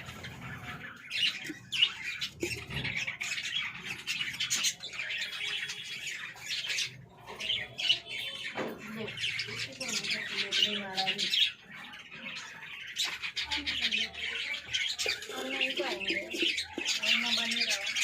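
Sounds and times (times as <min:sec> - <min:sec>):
budgerigars chattering and squawking: 0:00.0 - 0:18.0.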